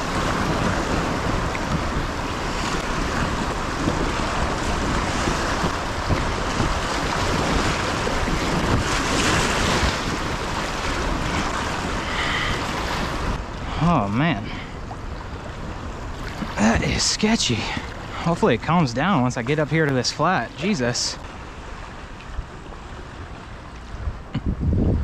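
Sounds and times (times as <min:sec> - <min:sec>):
water splashing against kayak: 0:00.0 - 0:24.5
wind buffeting microphone: 0:00.0 - 0:25.0.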